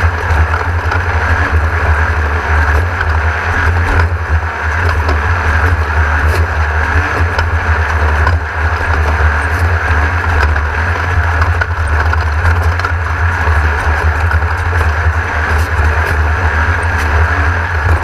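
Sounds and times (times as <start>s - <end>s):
buggy engine droning: 0.0s - 18.0s.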